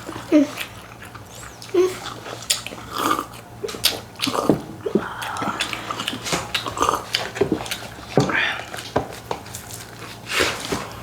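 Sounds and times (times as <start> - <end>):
wet chewing sounds: 0.0 - 10.5.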